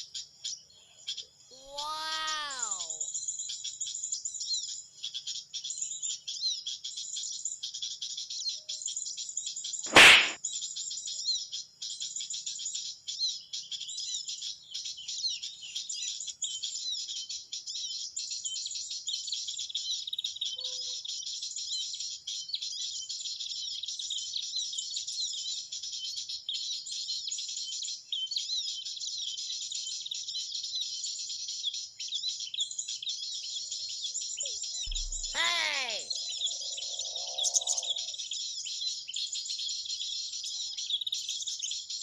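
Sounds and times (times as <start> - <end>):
small songbirds chirping: 0.0 - 9.8, 10.4 - 42.0.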